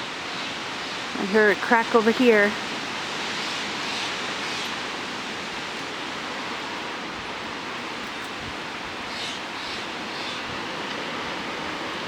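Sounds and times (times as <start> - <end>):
storm wind rushing through trees: 0.0 - 12.0.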